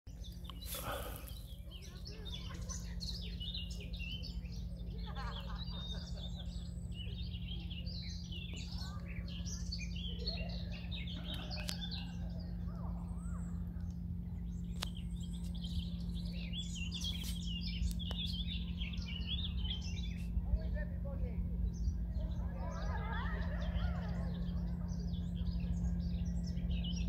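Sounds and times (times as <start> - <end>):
low hum and rumble: 0.1 - 27.0
small birds chirping: 0.1 - 27.0.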